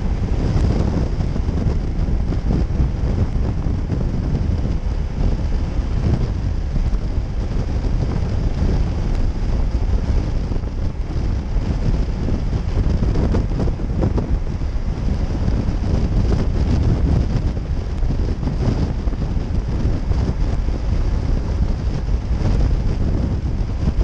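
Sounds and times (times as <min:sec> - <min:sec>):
motorcycle engine: 0:00.0 - 0:24.0
road noise: 0:00.0 - 0:24.0
wind buffeting microphone: 0:00.0 - 0:24.0.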